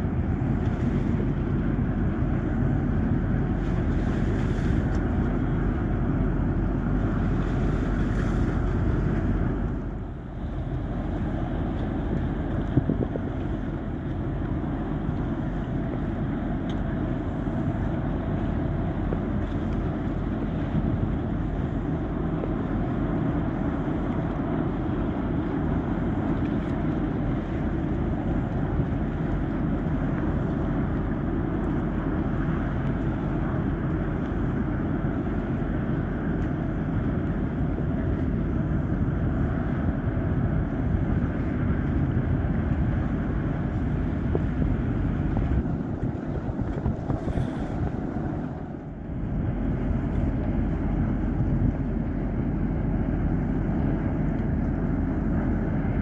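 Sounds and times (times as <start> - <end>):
ferry engines rumbling: 0.0 - 56.0.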